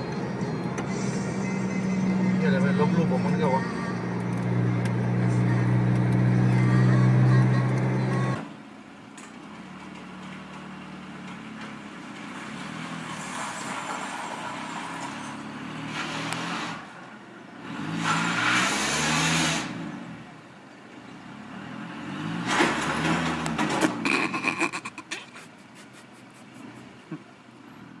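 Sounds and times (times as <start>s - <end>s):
car engine: 0.0s - 28.0s
road noise: 0.0s - 28.0s.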